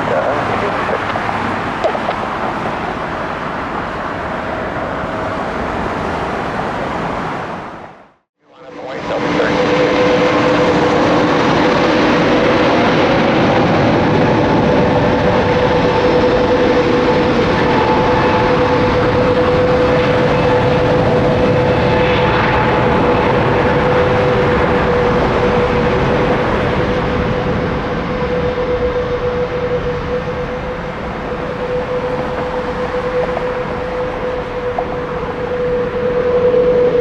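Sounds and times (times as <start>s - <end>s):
jet engines at takeoff power: 0.0s - 37.0s.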